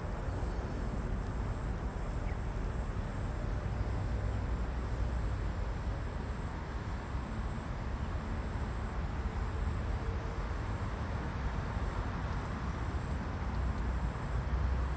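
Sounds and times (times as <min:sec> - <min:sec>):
constant high-pitched whine: 0:00.0 - 0:14.9.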